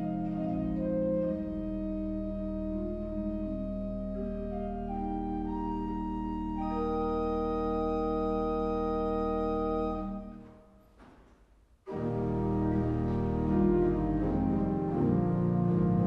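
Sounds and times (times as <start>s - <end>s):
church organ chords: 0.0s - 10.6s, 11.9s - 16.0s.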